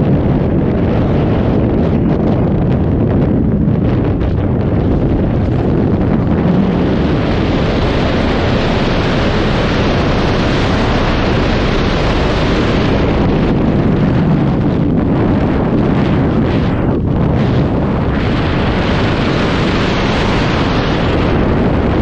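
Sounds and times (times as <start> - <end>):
air rushing over microphone: 0.0 - 22.0.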